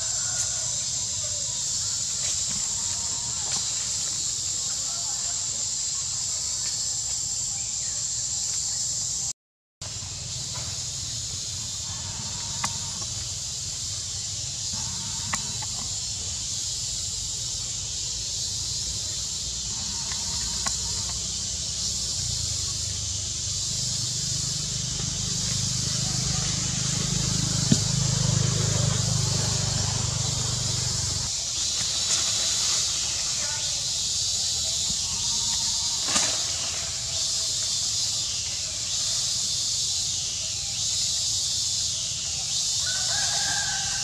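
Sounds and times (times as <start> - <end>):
forest insects droning: 0.0 - 44.0.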